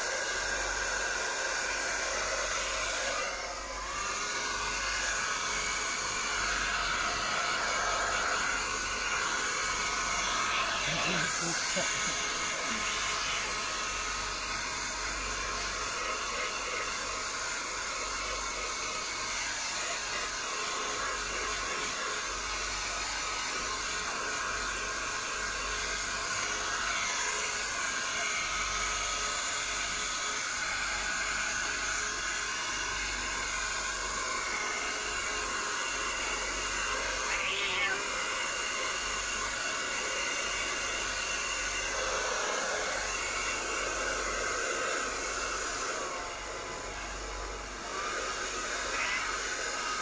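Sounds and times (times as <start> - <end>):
hair dryer blowing: 0.0 - 50.0.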